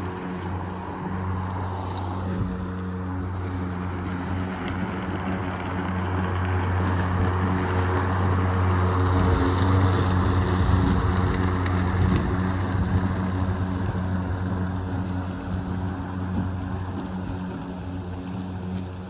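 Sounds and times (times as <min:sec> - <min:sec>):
blade cutting grass: 0:00.0 - 0:19.0
electric lawn mower humming: 0:00.0 - 0:19.0.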